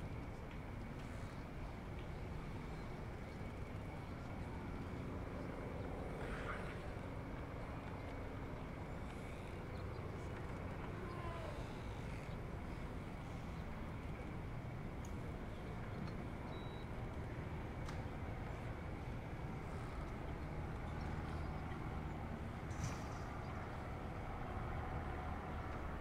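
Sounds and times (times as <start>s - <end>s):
low marina background rumble: 0.0s - 26.0s.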